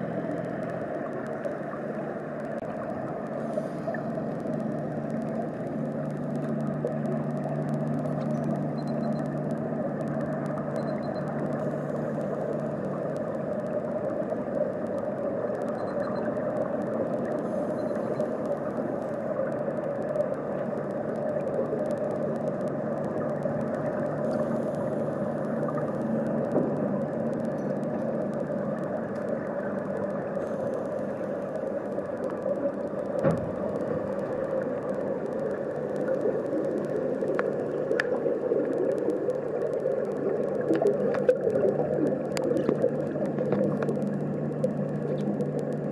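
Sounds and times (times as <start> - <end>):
low hum: 0.0 - 45.9
underwater rumble and hiss: 0.0 - 45.9.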